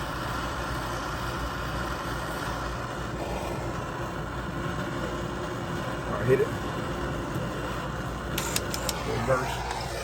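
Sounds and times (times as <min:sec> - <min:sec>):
gas torch hissing roar: 0:00.0 - 0:10.0.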